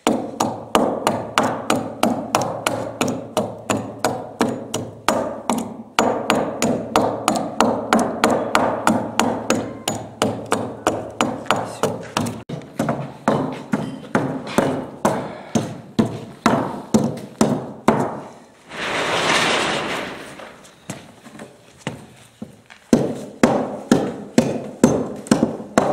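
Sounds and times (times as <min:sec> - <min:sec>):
adze chopping wood: 0:00.0 - 0:18.2, 0:22.9 - 0:25.9.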